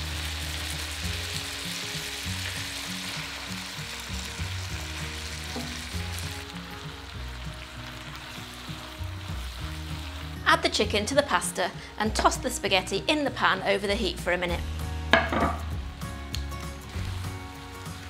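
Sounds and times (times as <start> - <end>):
frying pan sizzling: 0.0 - 13.6, 14.3 - 18.0
soft background music: 0.0 - 18.0.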